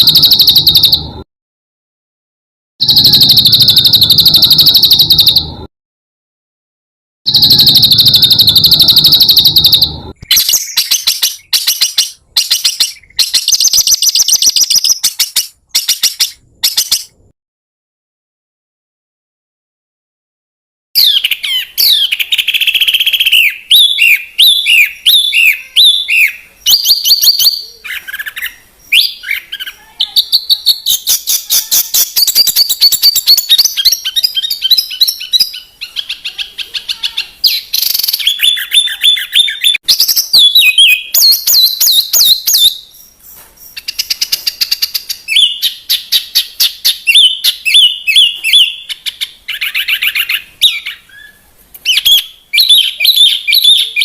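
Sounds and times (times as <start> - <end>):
songbird singing: 0.0 - 1.2, 2.8 - 5.7, 7.3 - 17.3, 21.0 - 54.0.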